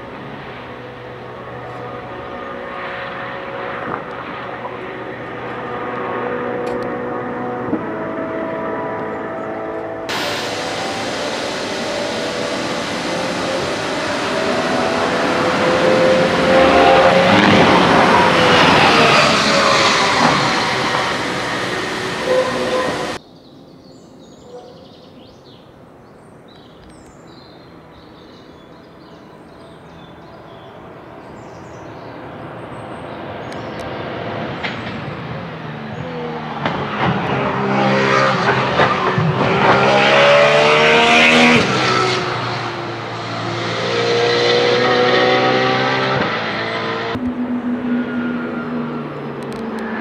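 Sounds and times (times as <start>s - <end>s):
race car engine accelerating: 0.0s - 23.2s, 31.3s - 50.0s.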